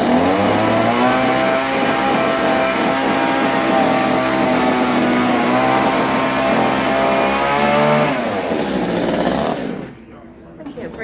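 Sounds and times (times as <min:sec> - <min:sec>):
chainsaw engine revving: 0:00.0 - 0:09.9.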